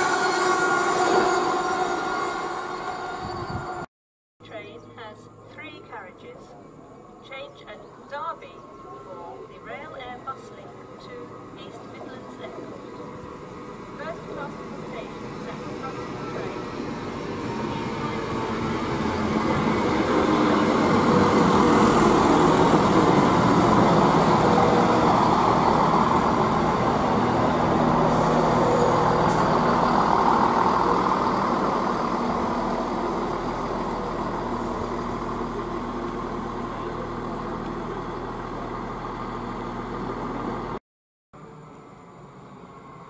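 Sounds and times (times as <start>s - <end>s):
diesel train rumbling past: 0.0s - 3.9s, 6.2s - 40.8s.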